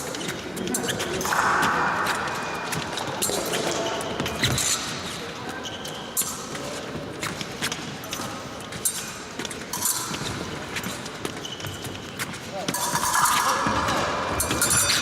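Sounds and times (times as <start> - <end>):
feet stamping and squeaking: 0.0 - 1.4, 2.0 - 15.0
murmur in a large hall: 0.0 - 15.0.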